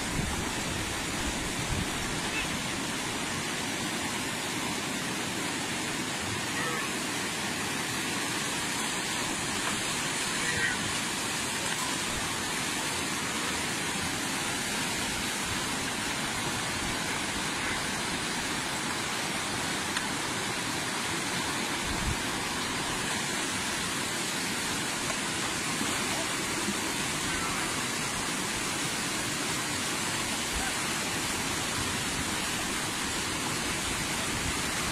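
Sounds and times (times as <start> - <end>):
fast-flowing river rushing: 0.0 - 34.9.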